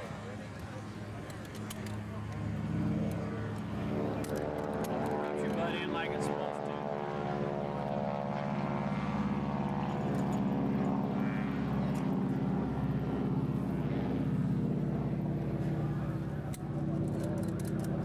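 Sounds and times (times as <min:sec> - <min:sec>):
light aircraft engine and propeller: 0:00.0 - 0:18.0.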